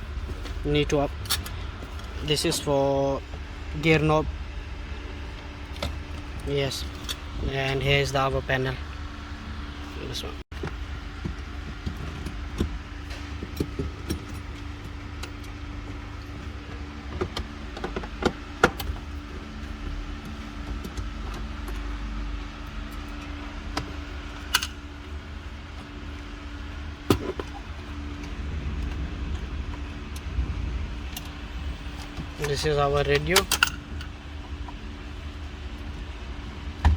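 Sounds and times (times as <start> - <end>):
steady background hum: 0.0 - 36.9.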